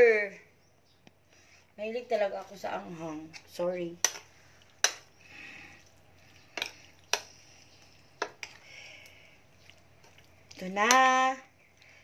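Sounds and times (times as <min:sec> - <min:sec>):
wet stirring sounds: 0:01.1 - 0:12.0.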